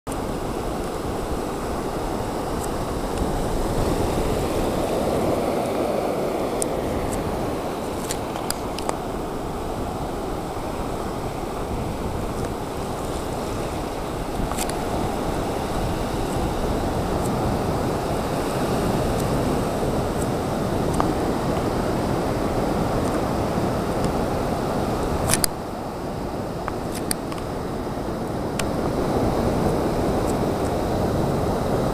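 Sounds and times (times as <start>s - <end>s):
small waves breaking: 0.1s - 31.9s
surf washing over shallows: 0.1s - 31.9s
wind noise on microphone: 0.1s - 31.9s.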